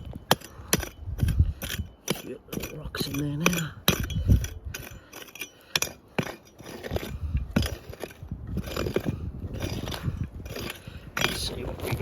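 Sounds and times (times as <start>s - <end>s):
wind rumble on microphone: 0.0s - 5.1s, 6.6s - 12.0s
digging tool scraping stony ground: 0.0s - 12.0s.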